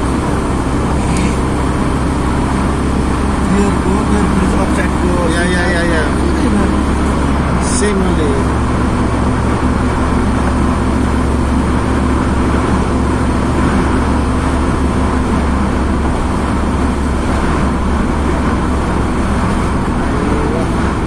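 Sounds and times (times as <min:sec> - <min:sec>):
car driving on highway from inside: 0:00.0 - 0:21.0.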